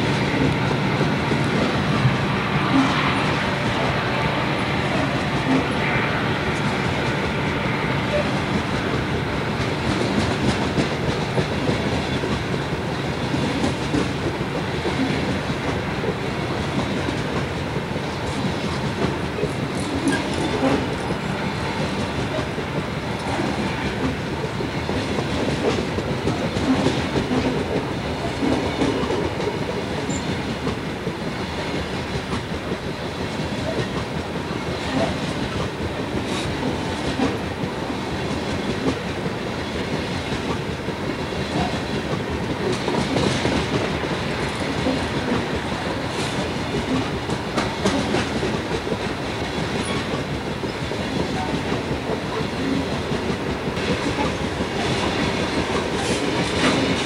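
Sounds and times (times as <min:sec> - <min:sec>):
steel wheels rolling on rail: 0:00.0 - 0:57.0.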